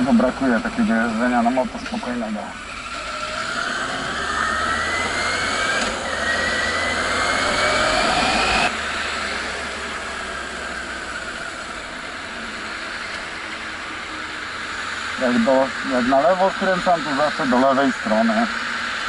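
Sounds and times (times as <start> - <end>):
motorcycle engine accelerating: 0.0 - 19.0
wind and road noise: 0.0 - 19.0.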